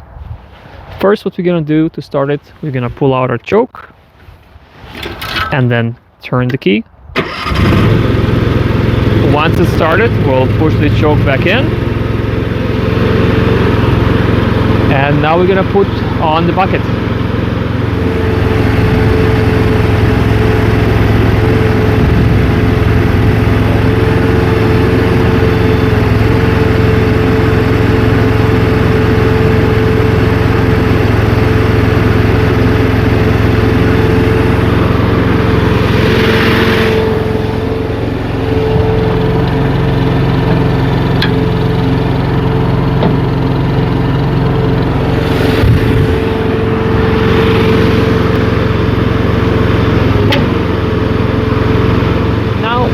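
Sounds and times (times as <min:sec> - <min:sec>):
gasoline engine running: 0:07.2 - 0:52.9
steady whine: 0:09.0 - 0:51.8.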